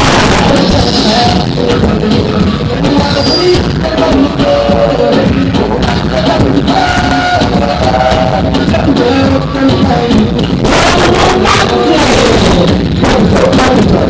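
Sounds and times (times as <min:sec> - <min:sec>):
harsh noisy swell: 0:00.0 - 0:14.0
loud distorted music with heavy bass: 0:00.0 - 0:14.0.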